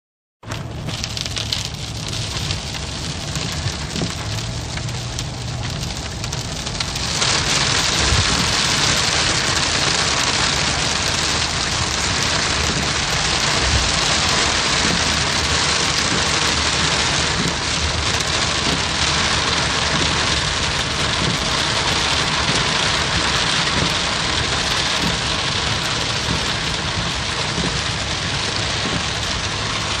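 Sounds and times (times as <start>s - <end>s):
heavy rain pouring: 0.4s - 30.0s.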